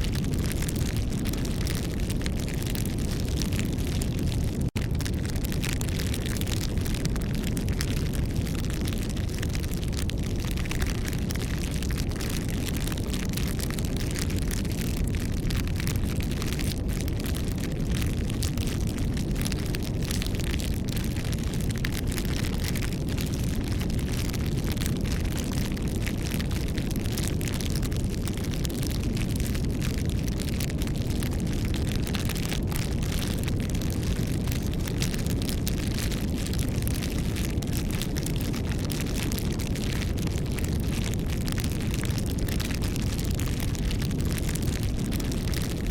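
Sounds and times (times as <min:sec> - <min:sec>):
steady low rumble: 0:00.0 - 0:45.7
wood fire crackling and popping: 0:00.0 - 0:45.9.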